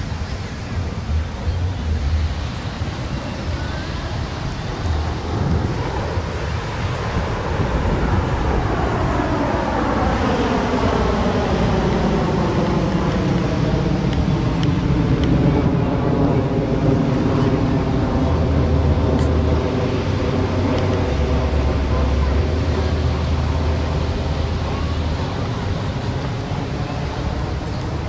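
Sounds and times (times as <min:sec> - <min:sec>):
jet engine rush with whine: 0:00.0 - 0:28.0.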